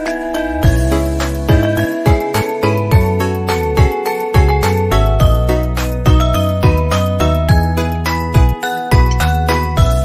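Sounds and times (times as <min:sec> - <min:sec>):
bell-like tones: 0:00.0 - 0:05.3, 0:06.2 - 0:10.0.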